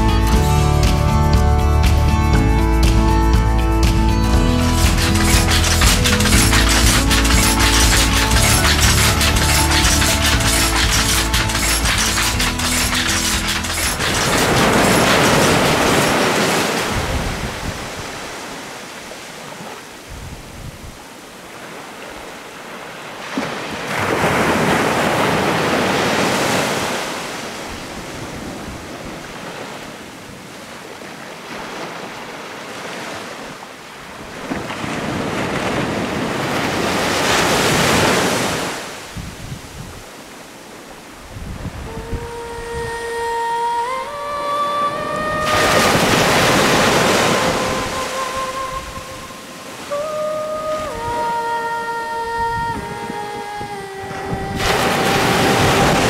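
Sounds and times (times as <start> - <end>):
sea waves breaking on shore: 4.6 - 56.0.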